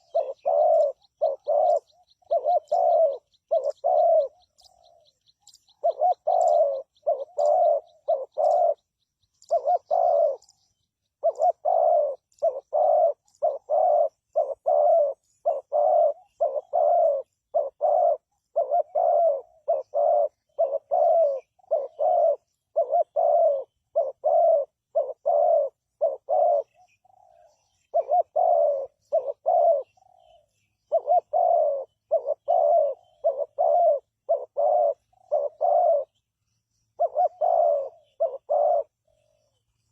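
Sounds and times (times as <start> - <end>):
dove cooing: 0.0 - 39.9
small bird chirping in high trill: 0.0 - 39.9.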